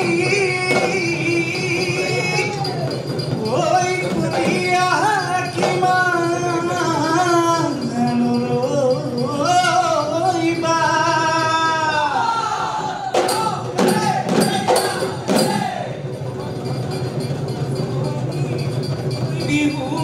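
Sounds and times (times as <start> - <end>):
men singing: 0.0 - 16.2, 17.8 - 20.0
drums: 0.0 - 20.0
sharp percussion strokes: 0.0 - 20.0.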